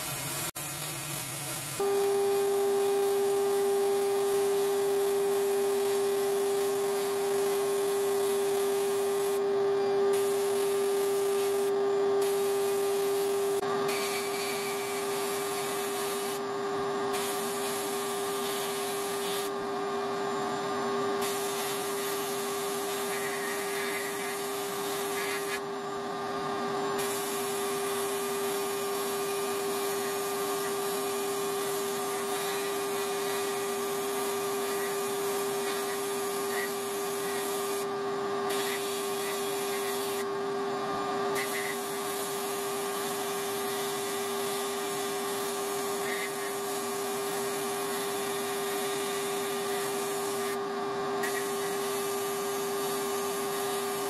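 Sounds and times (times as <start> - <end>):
steady buzzing hum: 0.0 - 54.0.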